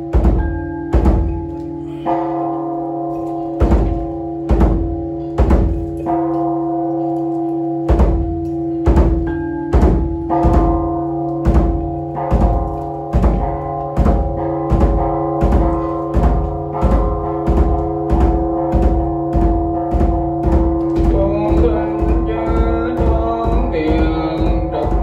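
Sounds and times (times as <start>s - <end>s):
barrel drum beats: 0.0s - 1.4s, 3.6s - 5.9s, 7.9s - 8.3s, 8.9s - 25.0s
big bell ringing: 0.0s - 25.0s.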